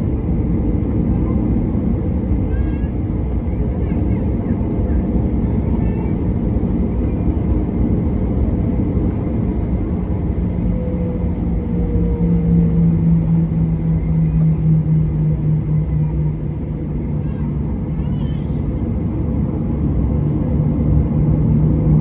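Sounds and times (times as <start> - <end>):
jet cabin rumble while taxiing: 0.0 - 22.0
steady low hum: 0.0 - 22.0.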